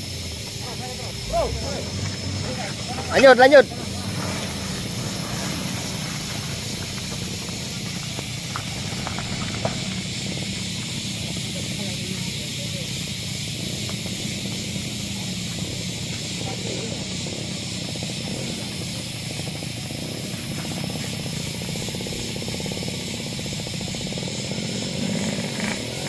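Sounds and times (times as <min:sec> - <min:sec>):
high-pitched hiss: 0:00.0 - 0:26.0
low engine rumble: 0:00.0 - 0:26.0.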